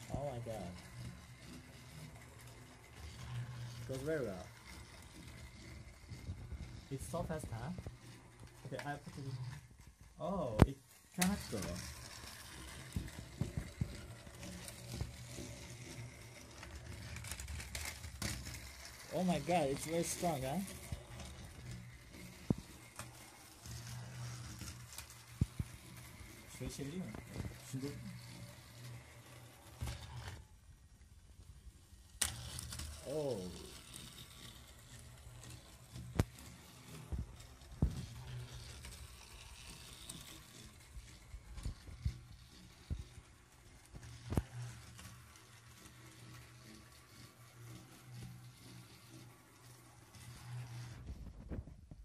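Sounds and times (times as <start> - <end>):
toy train motor whirring: 0.0 - 52.0.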